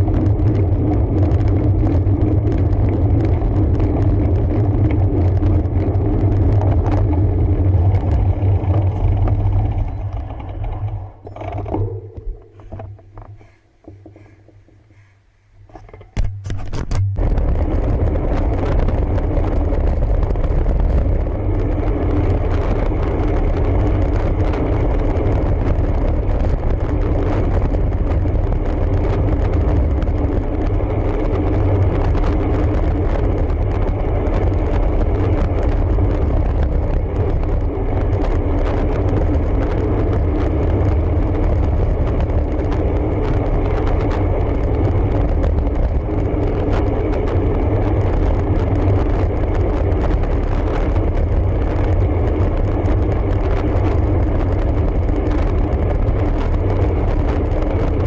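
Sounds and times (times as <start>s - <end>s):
tyre and road noise: 0.0s - 58.0s
wind rumble on microphone: 0.0s - 58.0s.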